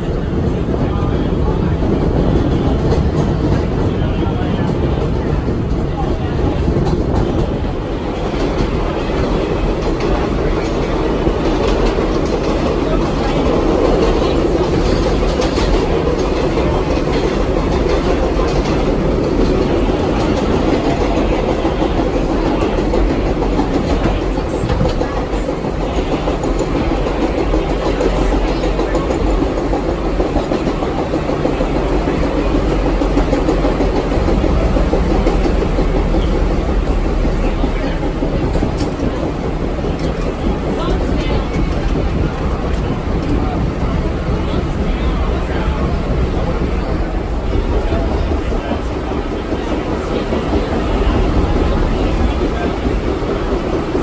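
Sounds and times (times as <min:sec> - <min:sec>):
subway train rumbling on track: 0:00.0 - 0:54.0.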